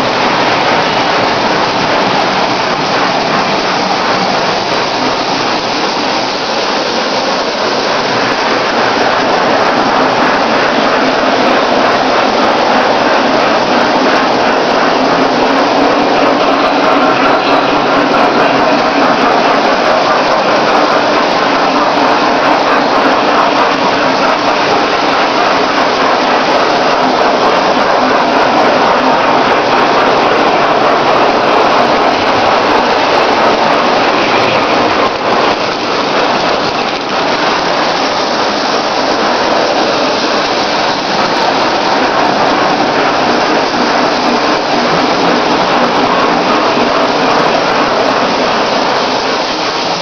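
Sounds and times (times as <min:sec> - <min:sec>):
toy train rumbling on rails: 0:00.0 - 0:50.0.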